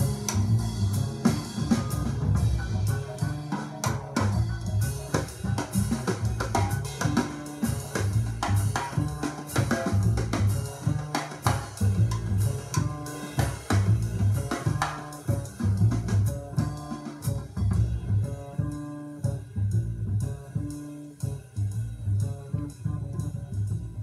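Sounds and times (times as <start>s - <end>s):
bass line: 0.0s - 24.0s
drum kit beat: 0.0s - 24.0s.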